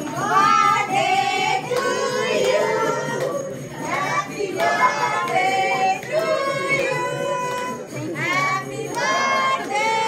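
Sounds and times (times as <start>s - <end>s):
jingling percussion: 0.0s - 10.0s.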